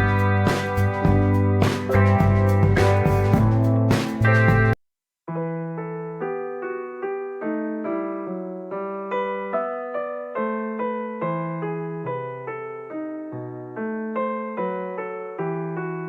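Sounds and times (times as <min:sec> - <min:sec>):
slow solo piano piece: 0:00.0 - 0:16.0.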